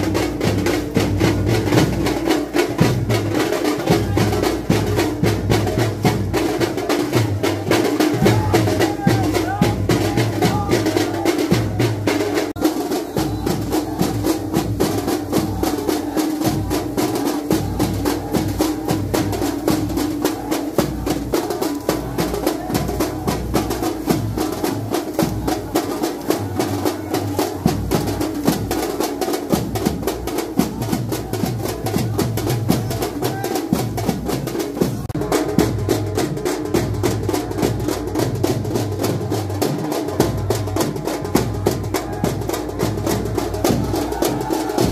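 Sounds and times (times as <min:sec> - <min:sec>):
men chanting: 0:00.0 - 0:35.4, 0:36.6 - 0:44.9
drums beating fast: 0:00.0 - 0:44.9.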